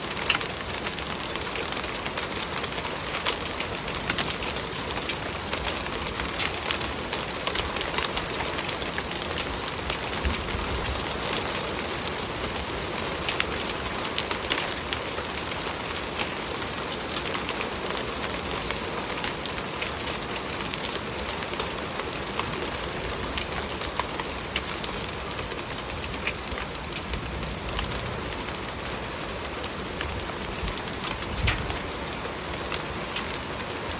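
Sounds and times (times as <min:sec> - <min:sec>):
hailstones ticking: 0:00.0 - 0:33.9
rain hissing: 0:00.0 - 0:33.9.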